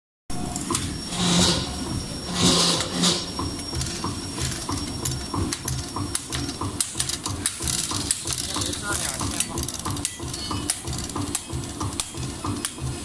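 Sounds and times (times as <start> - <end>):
machine motors pulsing: 0.3 - 13.0.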